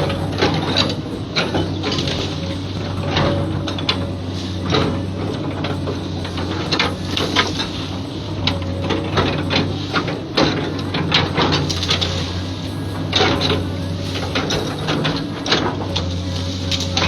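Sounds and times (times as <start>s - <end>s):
excavator diesel engine running: 0.0s - 17.0s
machine clanks and knocks: 0.0s - 17.0s.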